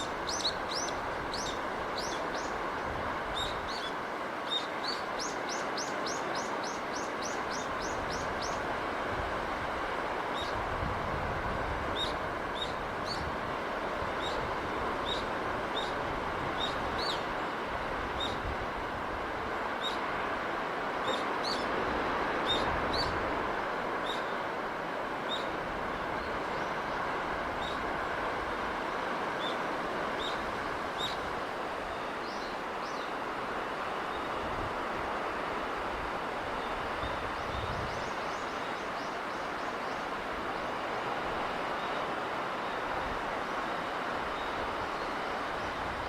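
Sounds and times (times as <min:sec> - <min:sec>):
rushing sea breeze: 0:00.0 - 0:46.0.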